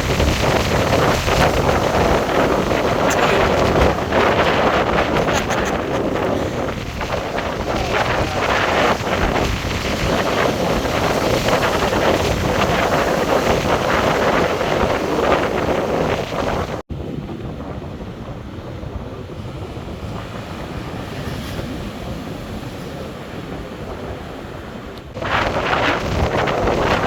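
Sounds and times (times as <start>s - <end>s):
surf breaking on a beach: 0.0s - 27.0s
wind buffeting the microphone: 0.0s - 27.0s.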